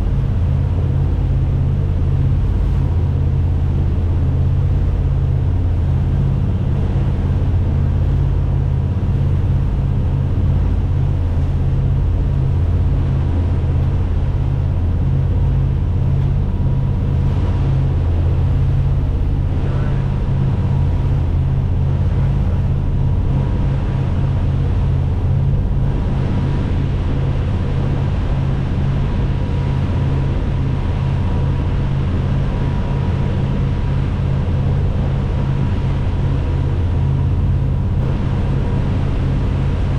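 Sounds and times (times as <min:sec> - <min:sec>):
boat engine droning: 0:00.0 - 0:39.9
faint steady whine: 0:00.0 - 0:39.9.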